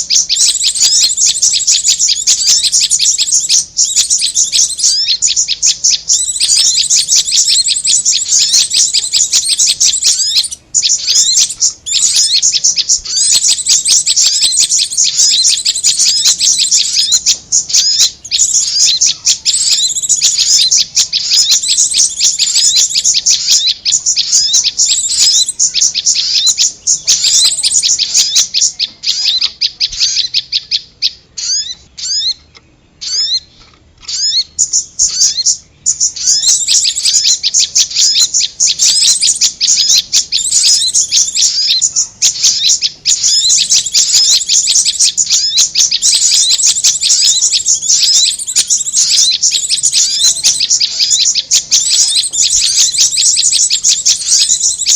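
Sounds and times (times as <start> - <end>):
fast high-pitched bird chirping: 0.0 - 54.9.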